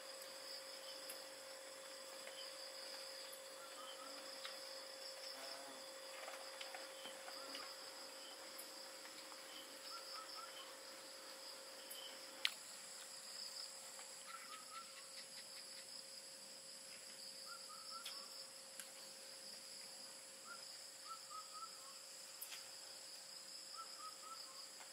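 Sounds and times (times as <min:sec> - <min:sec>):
short insect chirps: 0:00.0 - 0:16.3, 0:17.2 - 0:24.8
crickets trilling: 0:00.0 - 0:24.9.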